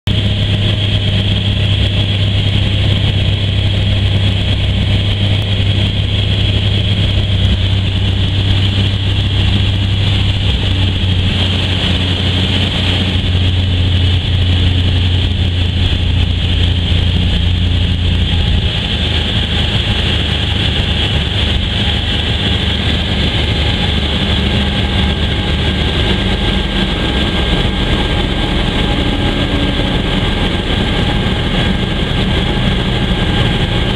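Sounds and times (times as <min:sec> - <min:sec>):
propeller plane engine droning: 0:00.0 - 0:33.9.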